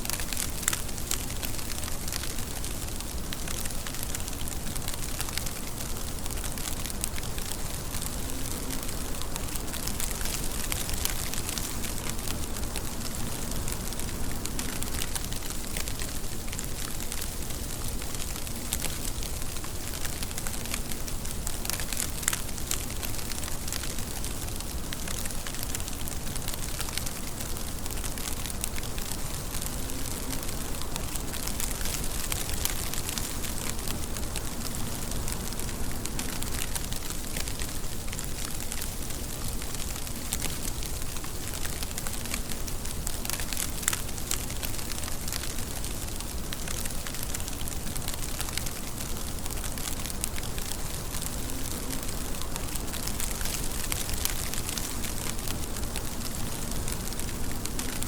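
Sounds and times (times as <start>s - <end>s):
raindrops ticking on surface: 0.0s - 58.0s
steady rain hiss: 0.0s - 58.0s.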